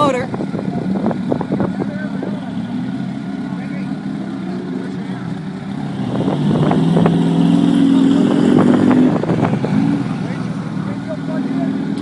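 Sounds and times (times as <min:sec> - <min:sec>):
race car engine running: 0:00.0 - 0:12.0.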